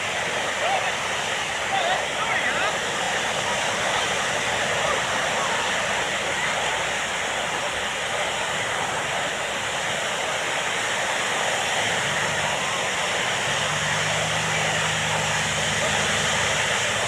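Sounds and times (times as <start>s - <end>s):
low engine drone: 0.0s - 17.0s
surf breaking: 0.0s - 17.0s.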